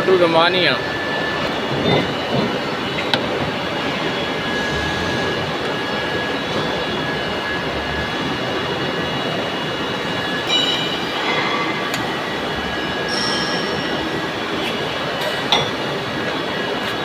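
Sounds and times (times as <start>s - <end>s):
mechanical running noise: 0.0s - 17.0s.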